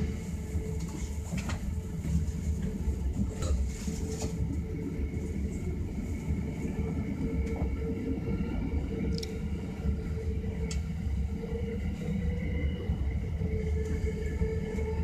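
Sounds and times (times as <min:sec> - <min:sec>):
constant hum: 0:00.0 - 0:15.0
train wheels rumbling on rails: 0:00.0 - 0:15.0.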